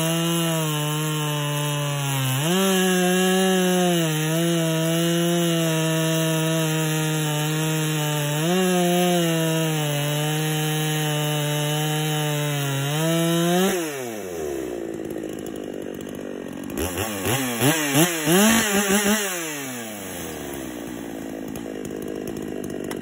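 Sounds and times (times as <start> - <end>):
chainsaw cutting log: 0.0 - 23.0.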